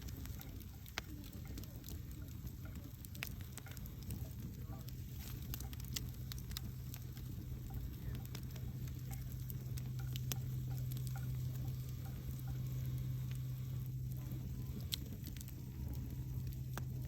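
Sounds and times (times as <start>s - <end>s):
campfire crackling and popping: 0.0s - 17.0s
low rumble: 0.0s - 17.0s.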